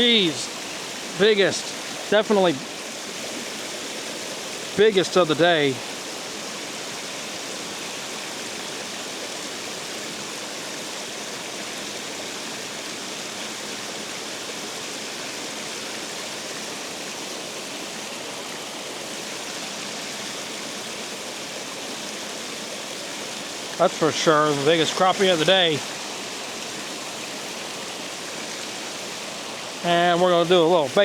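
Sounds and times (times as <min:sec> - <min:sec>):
water rushing over a spillway: 0:00.0 - 0:31.0.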